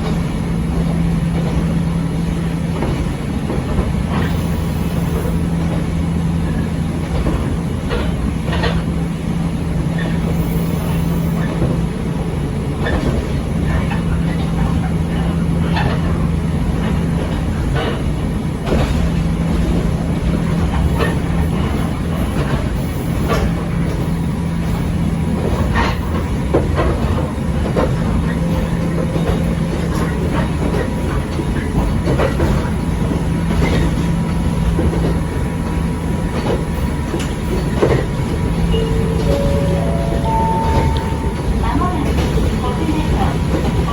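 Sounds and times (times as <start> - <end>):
railcar rumble: 0.0 - 43.9
wheels clicking over rail joints: 2.7 - 9.1, 12.6 - 43.9.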